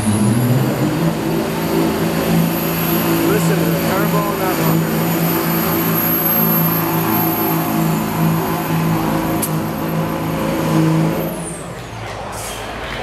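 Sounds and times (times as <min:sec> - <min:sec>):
diesel engine under full load: 0:00.0 - 0:13.0.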